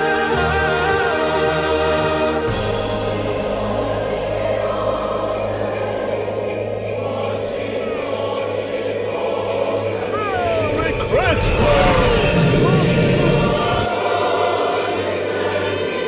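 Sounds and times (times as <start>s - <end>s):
choral singing: 0.0s - 16.0s
sleigh bells jingling: 2.5s - 16.0s.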